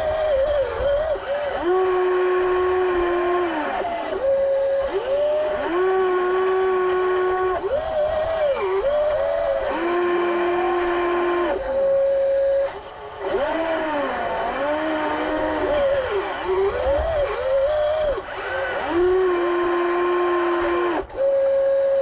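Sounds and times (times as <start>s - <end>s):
model excavator motor whining: 0.0s - 22.0s.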